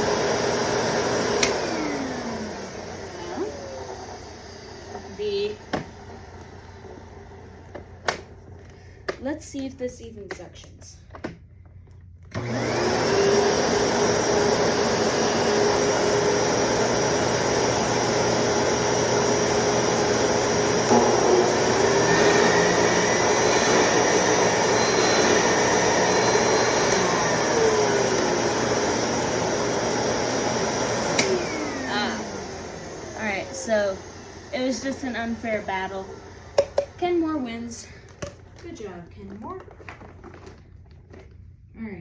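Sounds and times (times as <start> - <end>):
vacuum cleaner running: 0.0 - 8.6, 12.3 - 40.5.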